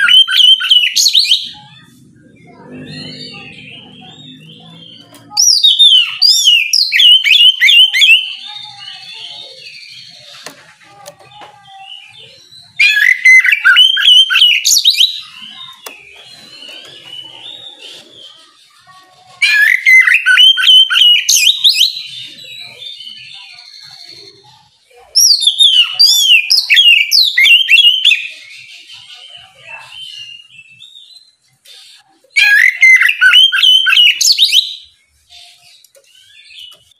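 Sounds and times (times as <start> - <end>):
magpie-robin whistled song: 0.0 - 1.9, 2.7 - 10.6, 11.8 - 18.7, 19.4 - 36.9.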